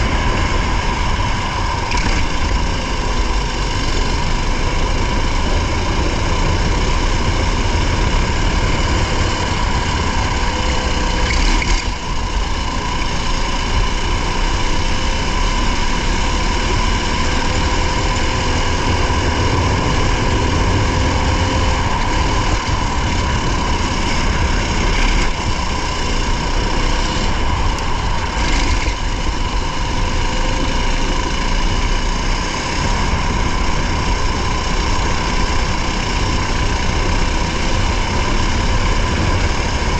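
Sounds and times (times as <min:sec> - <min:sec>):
race car engine at high revs: 0:00.0 - 0:39.9
tyre and road noise rumble: 0:00.0 - 0:39.9.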